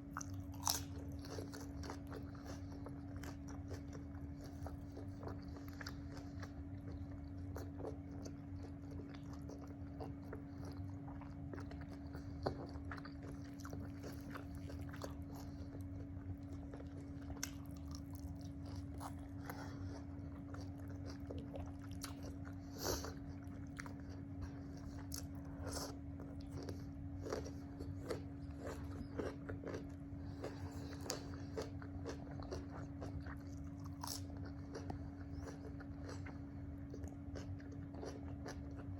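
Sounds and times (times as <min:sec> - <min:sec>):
chewing and biting: 0:00.0 - 0:38.9
steady low electrical hum: 0:00.0 - 0:38.9.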